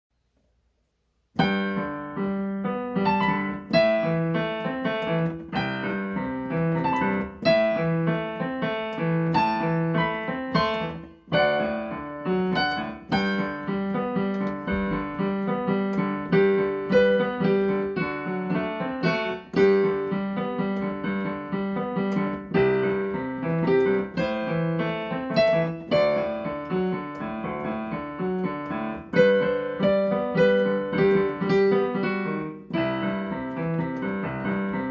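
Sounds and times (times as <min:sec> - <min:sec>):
piano melody over chords: 0:01.4 - 0:34.9.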